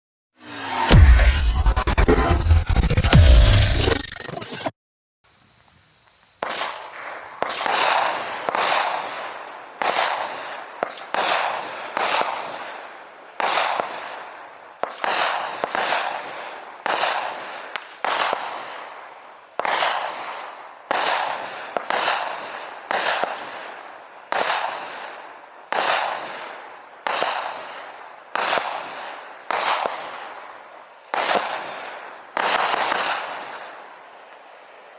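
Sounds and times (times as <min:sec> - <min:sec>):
firework shots with hiss: 0:00.4 - 0:04.7, 0:06.4 - 0:34.7.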